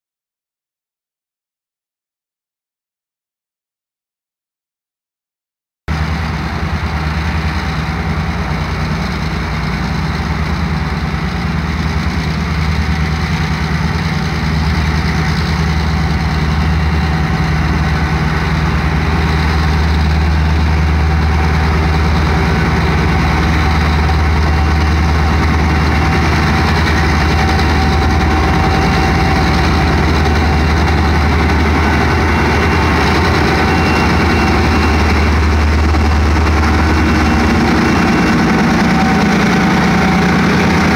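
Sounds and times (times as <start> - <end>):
diesel locomotive engine drone: 5.9 - 40.9.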